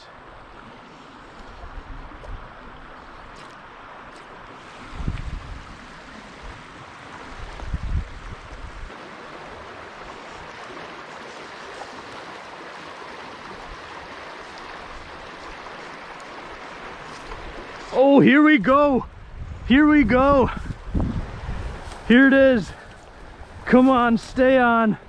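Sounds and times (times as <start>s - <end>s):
stream water running: 0.0s - 25.0s.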